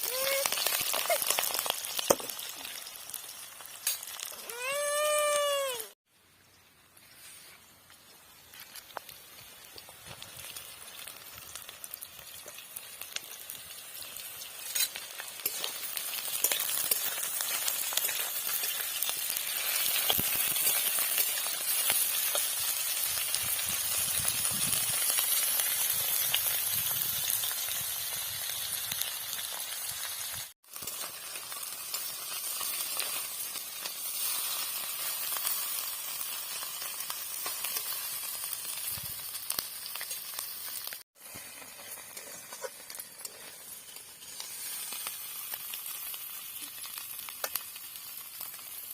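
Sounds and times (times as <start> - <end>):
food frying in hot oil: 0.0 - 5.8, 8.0 - 48.9.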